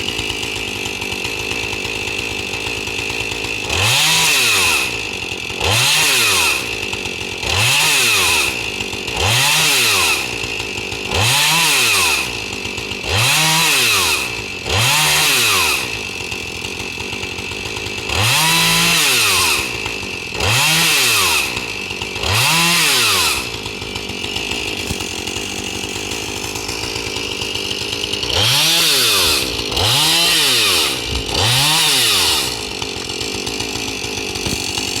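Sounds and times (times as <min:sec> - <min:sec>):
chainsaw engine revving: 0:00.0 - 0:35.0
chainsaw idling: 0:00.0 - 0:35.0.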